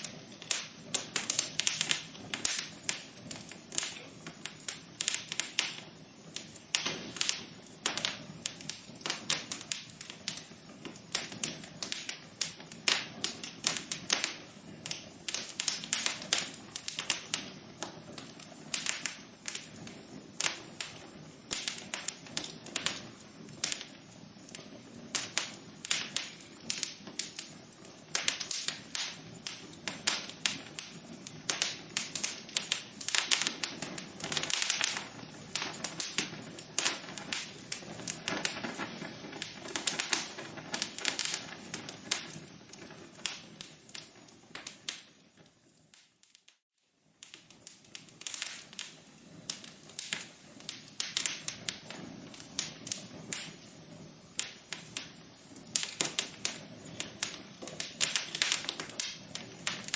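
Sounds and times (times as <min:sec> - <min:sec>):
low hiss: 0:00.0 - 0:59.9
wood fire crackling: 0:00.0 - 0:59.9.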